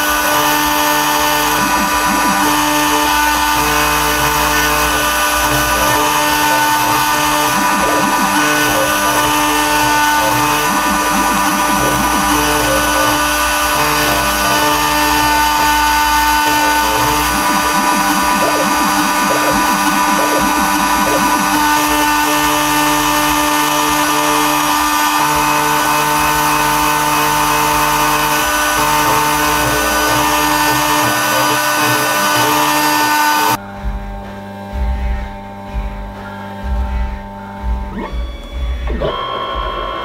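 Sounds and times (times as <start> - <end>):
router spindle motor whine: 0.0 - 33.6, 35.6 - 40.0
axis drives humming: 0.0 - 40.0.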